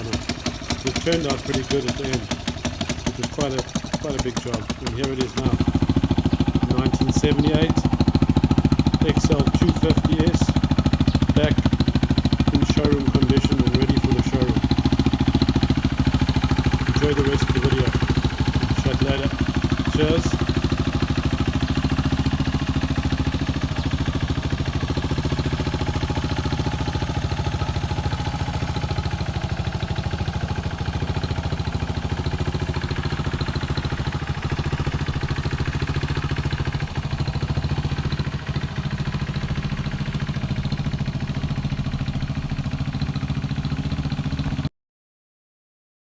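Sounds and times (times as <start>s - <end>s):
motorcycle engine idling: 0.0s - 44.7s.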